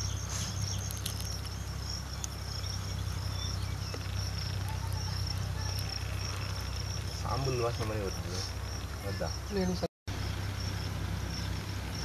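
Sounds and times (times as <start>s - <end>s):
insects chirping: 0.0s - 12.0s
low steady rumble: 0.0s - 12.0s.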